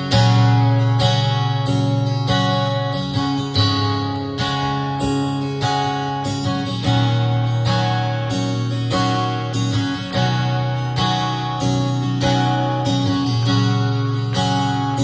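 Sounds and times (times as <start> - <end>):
acoustic guitar strummed chords: 0.0 - 15.0.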